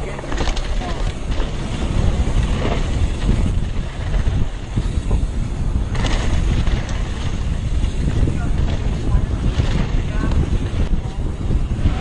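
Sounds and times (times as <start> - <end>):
bike tyres on dirt: 0.0 - 12.0
wind rushing over microphone: 0.0 - 12.0.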